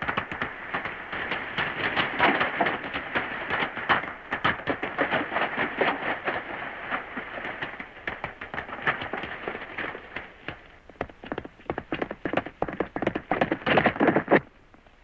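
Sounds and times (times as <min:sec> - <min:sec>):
horse hooves clattering on dirt: 0:00.0 - 0:15.0.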